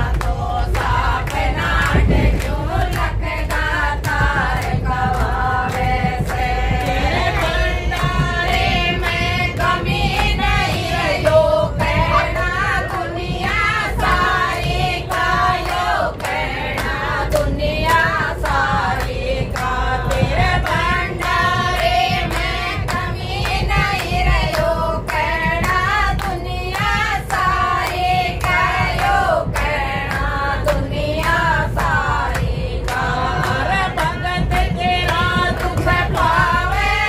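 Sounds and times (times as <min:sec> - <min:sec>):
clapping in time: 0:00.0 - 0:37.0
low steady rumble: 0:00.0 - 0:37.0
women and children singing: 0:00.0 - 0:37.0.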